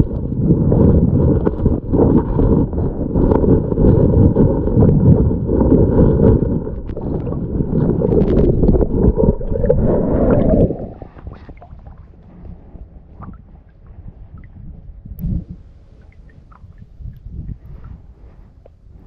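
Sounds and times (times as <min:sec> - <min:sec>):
muffled underwater water rumble: 0:00.0 - 0:19.0.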